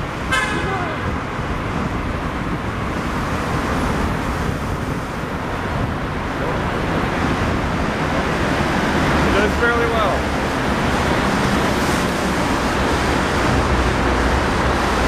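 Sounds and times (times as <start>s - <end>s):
traffic echoing in tunnel: 0.0s - 15.0s
wind rumble on microphone: 0.0s - 15.0s.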